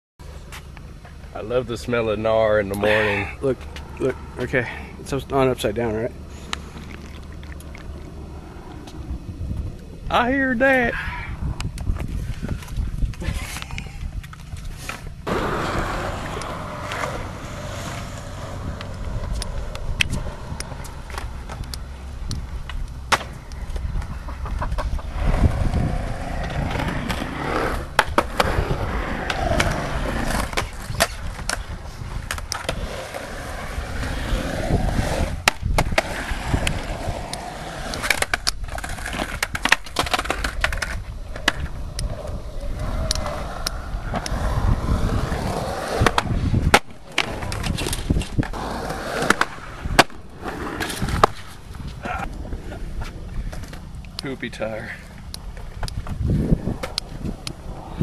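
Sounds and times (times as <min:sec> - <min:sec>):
skateboard wheels rolling on concrete: 0:00.2 - 0:58.0.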